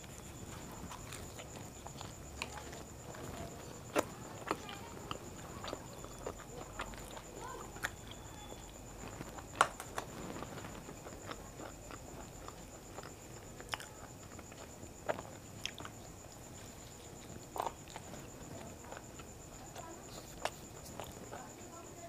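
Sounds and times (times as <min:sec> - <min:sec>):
faint chewing and mouth sounds: 0:00.0 - 0:22.0
faint high-pitched whine: 0:00.0 - 0:22.0.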